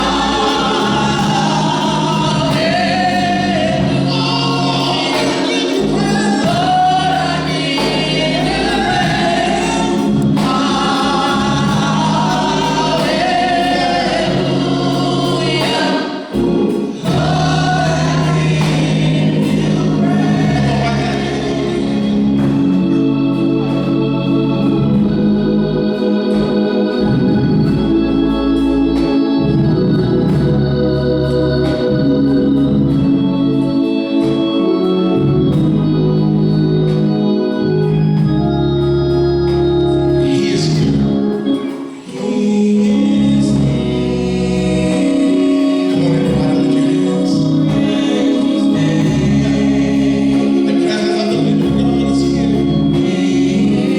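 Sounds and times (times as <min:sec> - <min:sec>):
gospel choir singing: 0:00.0 - 0:53.9
organ chords: 0:00.0 - 0:53.9.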